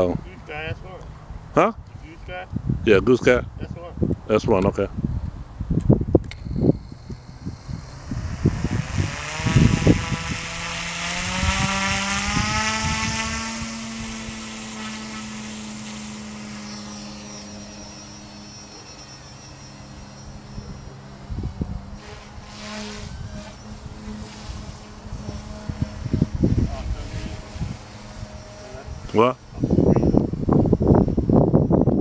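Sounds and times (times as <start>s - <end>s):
helicopter motor and rotor whine: 5.8s - 32.0s.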